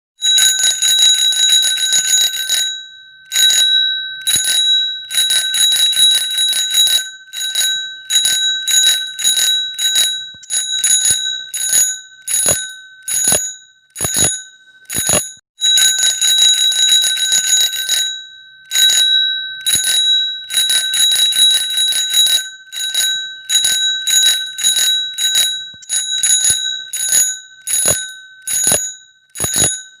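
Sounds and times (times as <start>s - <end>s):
bicycle bell ringing: 0.2s - 30.0s.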